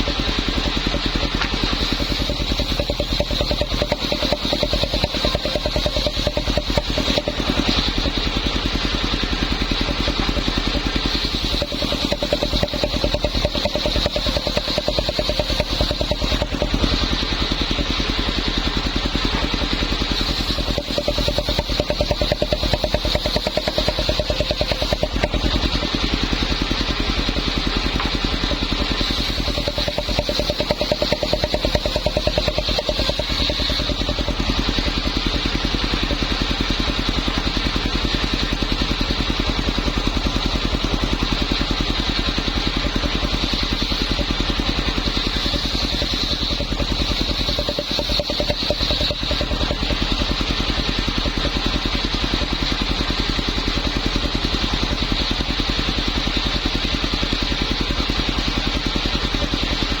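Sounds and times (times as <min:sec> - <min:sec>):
circular saw running: 0:00.0 - 1:00.0.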